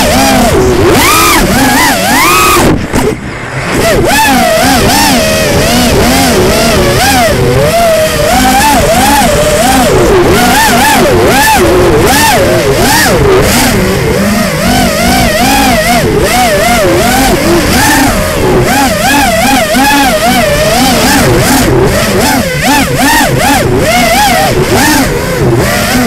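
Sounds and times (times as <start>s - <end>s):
drone motors whining: 0.0s - 26.0s
wind noise on microphone: 0.0s - 26.0s.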